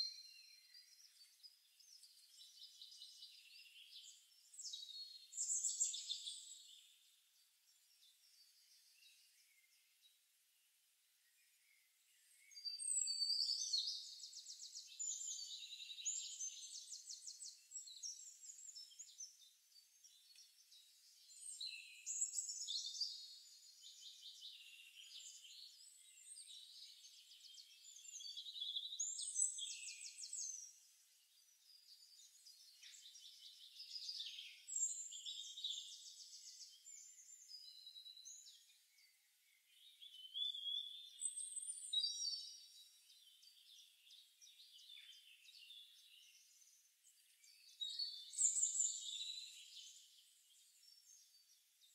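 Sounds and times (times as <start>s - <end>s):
songbirds singing trills and chirps: 0.0s - 51.9s.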